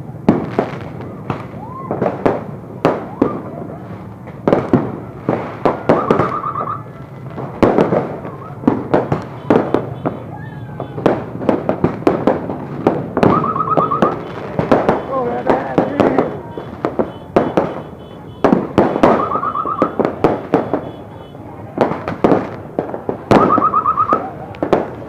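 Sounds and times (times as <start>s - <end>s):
fireworks bangs and pops: 0.0s - 25.0s
fireworks warbling whistles: 0.3s - 25.0s.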